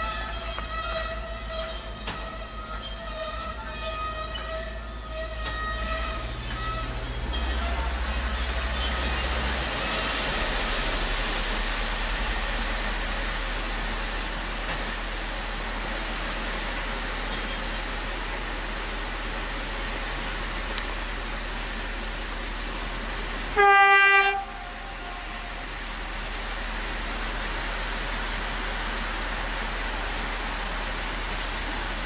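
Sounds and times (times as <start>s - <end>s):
train low rumble: 0.0s - 32.0s.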